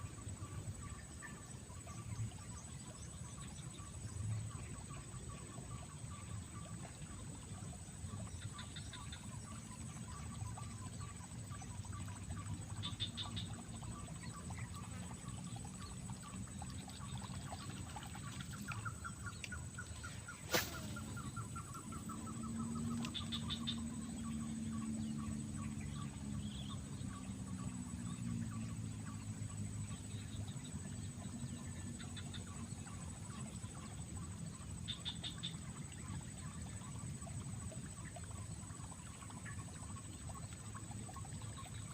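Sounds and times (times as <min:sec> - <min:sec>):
low steady rumble: 0:00.0 - 0:41.9.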